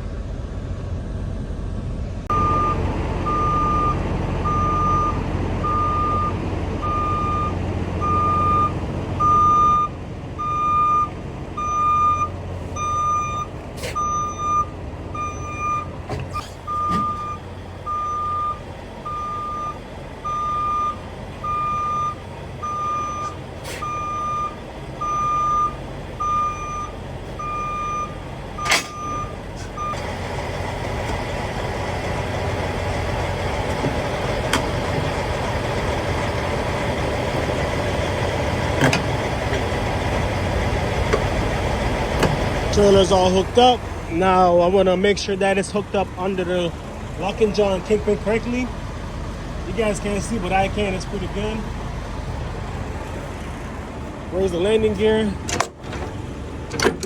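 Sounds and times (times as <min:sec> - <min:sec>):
diesel truck engine running: 0:00.0 - 0:57.0
truck backup alarm beeping: 0:02.3 - 0:57.0.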